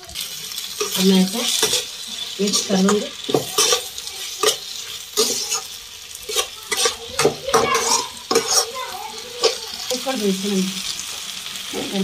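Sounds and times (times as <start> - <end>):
vegetables sizzling: 0.0 - 12.0
metal spatula scraping frying pan: 0.2 - 10.2.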